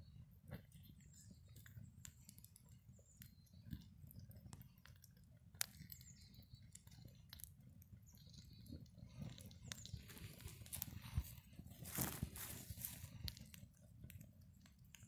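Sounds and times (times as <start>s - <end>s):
fire crackling with snaps and pops: 0.0s - 15.0s.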